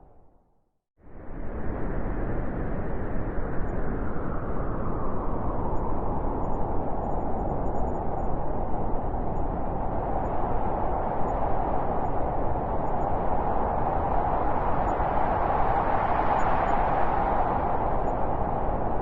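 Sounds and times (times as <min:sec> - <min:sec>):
blizzard wind blowing: 0:01.0 - 0:19.0.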